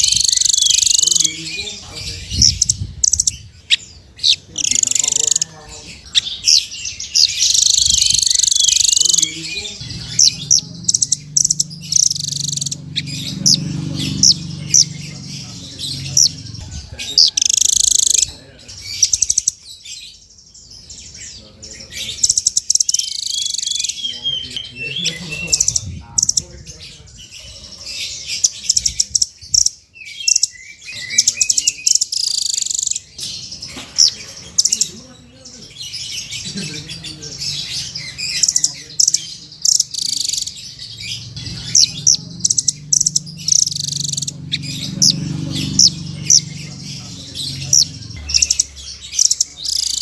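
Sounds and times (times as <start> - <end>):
songbird chirping: 0.0 - 50.0.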